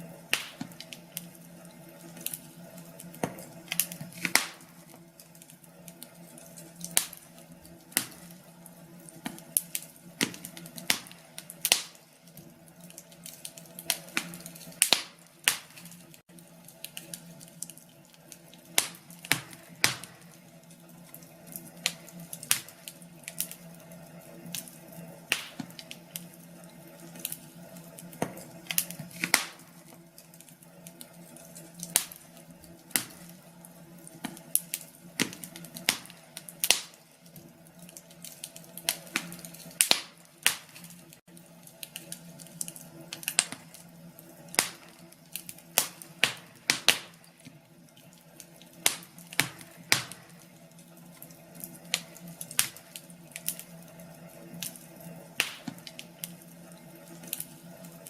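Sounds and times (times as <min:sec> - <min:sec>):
wood fire crackling: 0:00.0 - 0:58.0
fire pops: 0:00.1 - 0:58.0.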